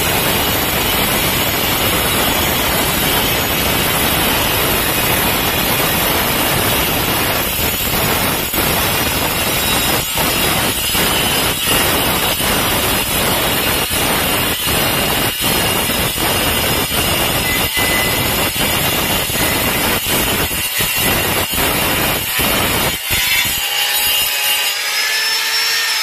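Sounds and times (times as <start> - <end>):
angle grinder cutting tile: 0.0 - 26.0.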